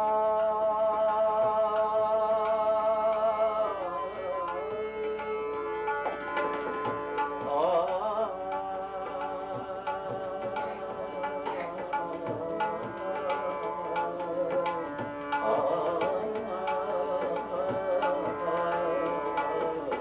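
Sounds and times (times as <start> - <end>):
harmonium: 0.0 - 20.0
man singing devotional song: 0.0 - 20.0
tabla: 0.0 - 20.0.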